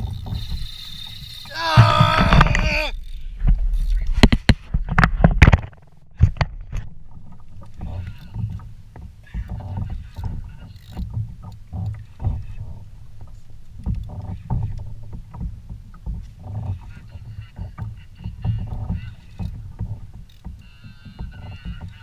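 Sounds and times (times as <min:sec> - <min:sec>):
water sloshing against a hull: 0:00.0 - 0:22.0.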